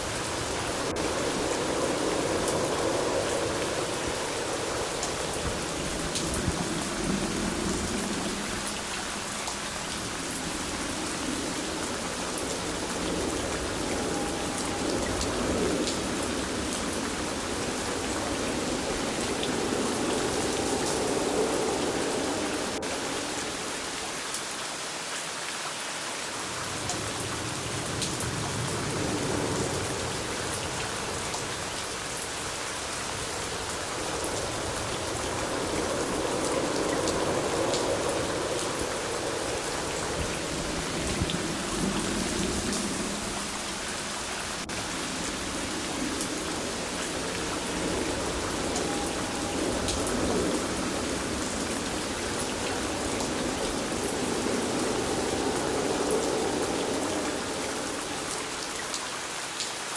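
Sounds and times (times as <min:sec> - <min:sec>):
deeper rush of rain: 0:00.0 - 0:59.9
steady rain: 0:00.0 - 0:59.9.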